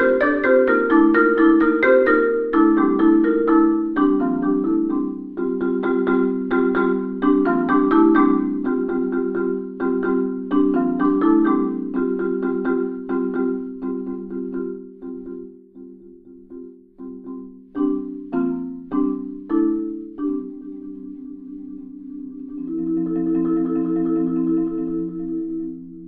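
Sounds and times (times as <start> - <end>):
marimba played with mallets: 0.0 - 26.0.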